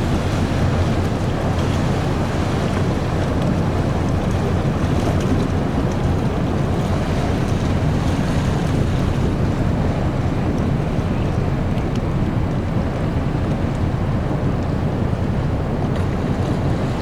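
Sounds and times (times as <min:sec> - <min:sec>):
propeller churning water: 0:00.0 - 0:17.0
ship engine rumble: 0:00.0 - 0:17.0
wind noise on microphone: 0:00.0 - 0:17.0.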